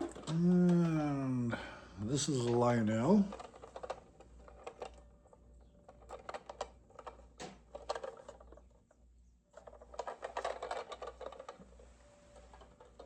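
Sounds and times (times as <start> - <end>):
model train car clicking and rattling: 0.0 - 1.2, 2.2 - 13.0.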